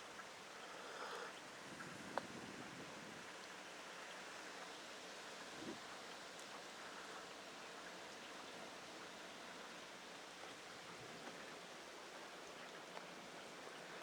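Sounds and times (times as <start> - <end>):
small rain ticks: 0.0 - 14.0.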